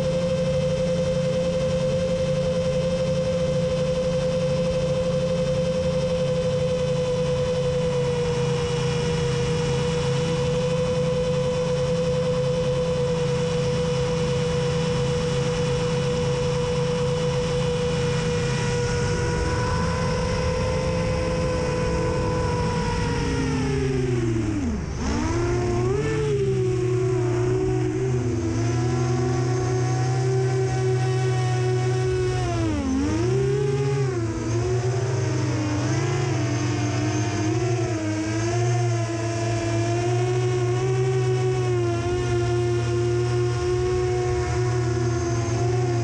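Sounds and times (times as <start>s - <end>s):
quadcopter motors whining: 0.0s - 46.0s.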